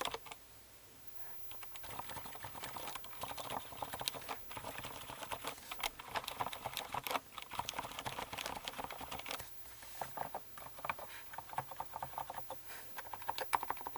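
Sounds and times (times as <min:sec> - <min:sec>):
mechanical keyboard typing: 0:00.0 - 0:00.4, 0:01.5 - 0:09.4, 0:10.0 - 0:13.9.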